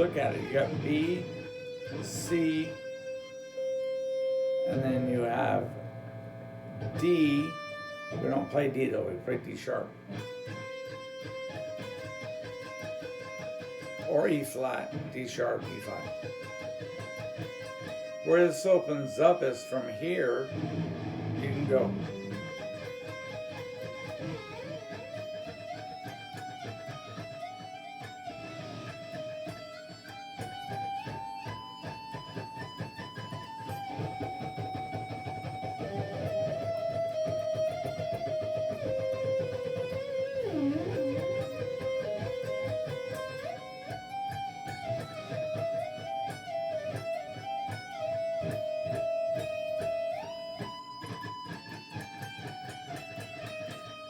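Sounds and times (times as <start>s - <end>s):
guitar playing melodic runs: 0.0s - 54.0s.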